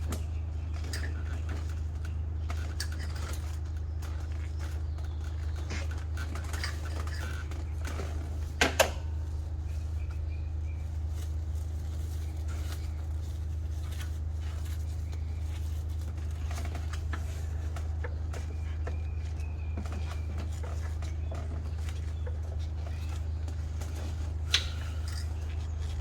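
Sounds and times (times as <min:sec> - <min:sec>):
hands working on engine: 0:00.0 - 0:26.0
steady low hum: 0:00.0 - 0:26.0.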